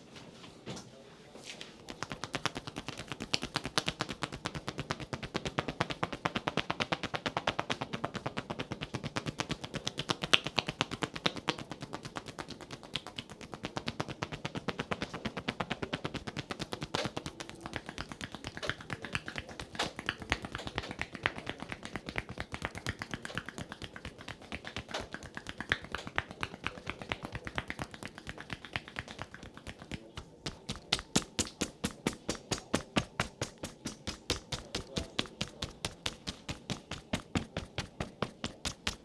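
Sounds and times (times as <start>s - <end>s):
hands tapping on body: 1.8s - 39.0s.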